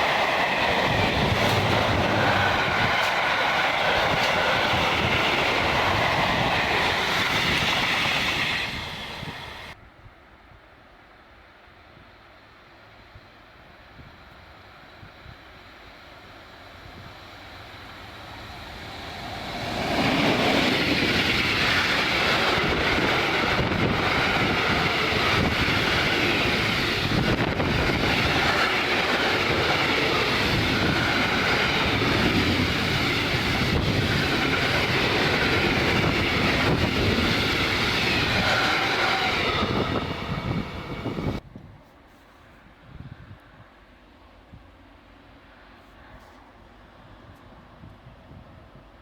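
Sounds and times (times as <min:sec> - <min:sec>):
train passing close by: 0:00.0 - 0:41.5, 0:42.6 - 0:49.0.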